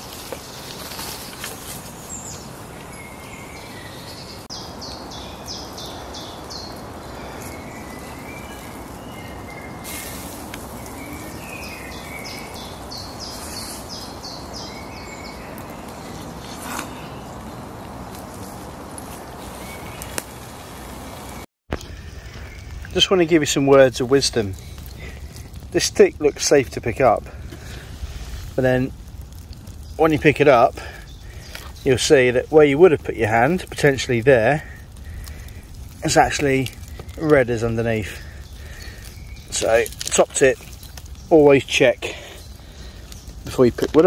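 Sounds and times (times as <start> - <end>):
songbird singing: 0.0 - 28.9, 29.5 - 44.0.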